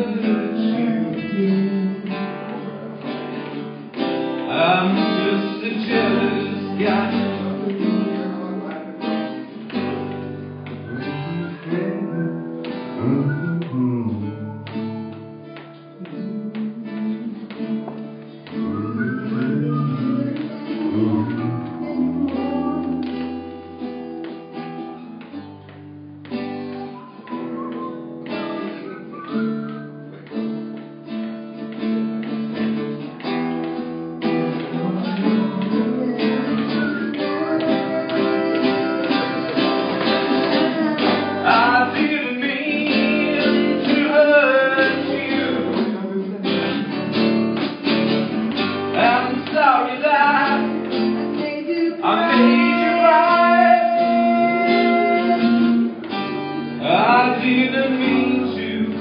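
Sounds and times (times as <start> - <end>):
acoustic guitar playing: 0.0 - 59.0.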